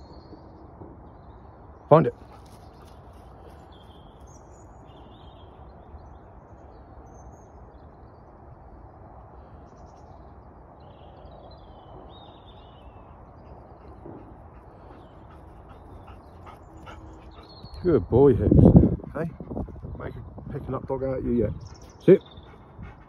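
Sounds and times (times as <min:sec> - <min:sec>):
small birds chirping: 0:00.0 - 0:08.4, 0:09.3 - 0:23.0.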